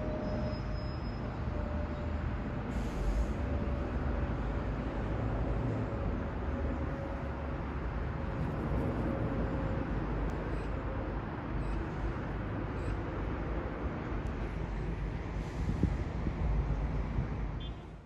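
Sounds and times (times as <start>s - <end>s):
jet engines passing overhead: 2.7s - 17.6s.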